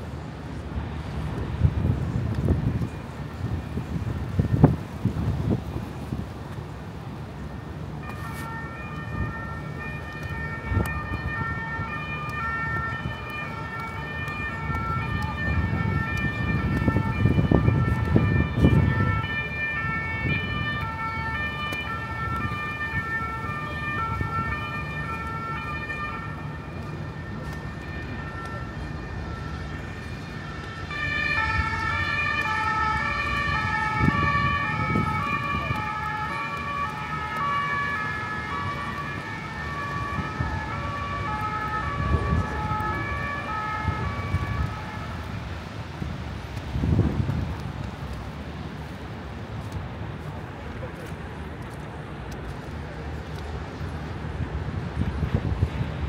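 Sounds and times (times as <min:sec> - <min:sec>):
two-tone emergency siren: 0:01.4 - 0:06.2, 0:07.4 - 0:49.8, 0:52.6 - 0:56.0.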